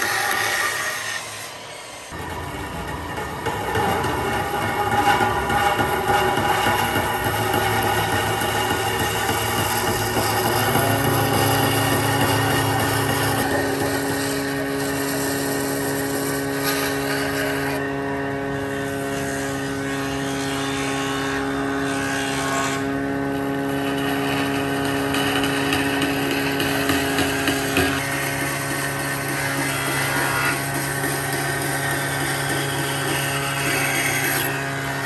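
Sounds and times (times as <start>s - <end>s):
power tool motor humming: 0.0s - 35.0s.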